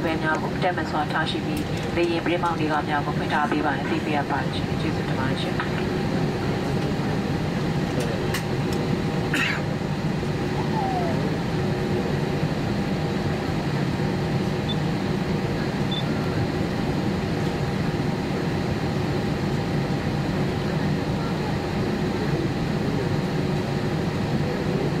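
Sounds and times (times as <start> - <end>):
cabin air-conditioning hum: 0.0 - 20.0
aircraft cabin engine drone: 0.0 - 25.0.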